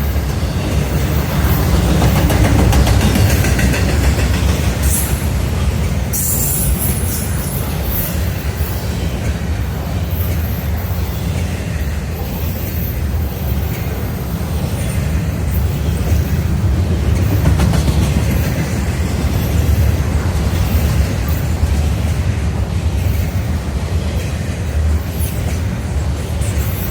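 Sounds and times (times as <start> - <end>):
train rumbling on rails: 0.0 - 26.9.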